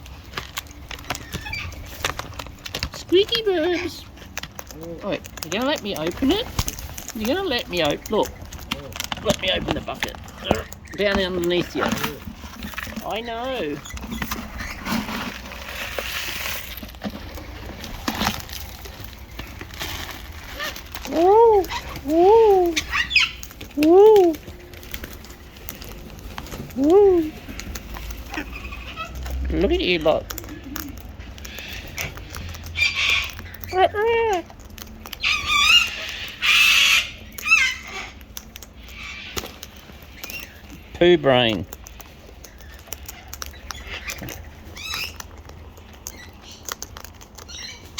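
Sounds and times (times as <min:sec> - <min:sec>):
parrots crunching seed: 0:00.0 - 0:47.9.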